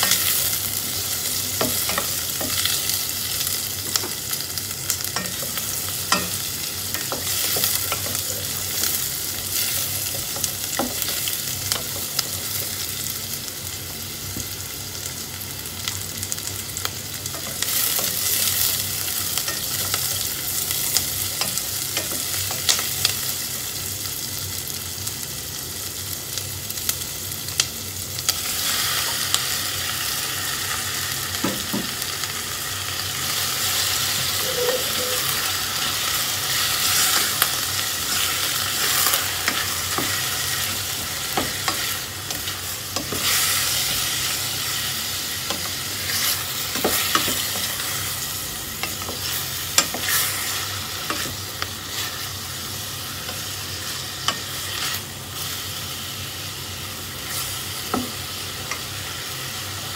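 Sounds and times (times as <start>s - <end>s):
onions sizzling in a pot: 0.0s - 59.9s.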